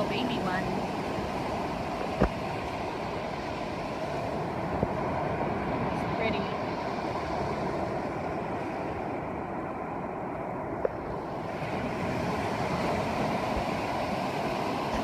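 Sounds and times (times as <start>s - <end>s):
ocean surf rushing: 0.0s - 15.0s
wind buffeting microphone: 0.0s - 15.0s.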